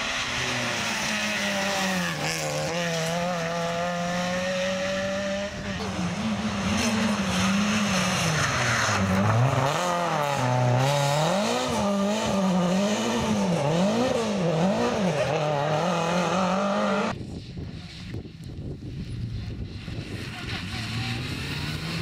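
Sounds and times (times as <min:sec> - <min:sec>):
rally car engine revving: 0:00.0 - 0:17.2, 0:19.5 - 0:22.0.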